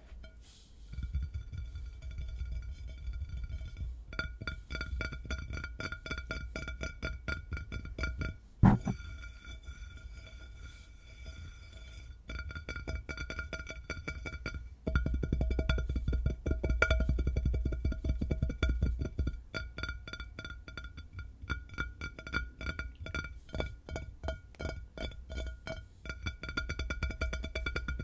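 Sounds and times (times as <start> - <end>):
fast tapping on resonant object: 1.1 - 10.5, 12.2 - 28.0.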